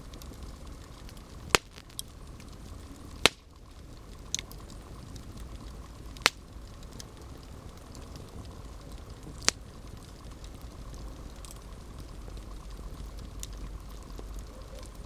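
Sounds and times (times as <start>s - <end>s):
campfire burning: 0.0s - 15.0s
low rumble: 0.0s - 15.0s
wood popping: 0.0s - 15.0s.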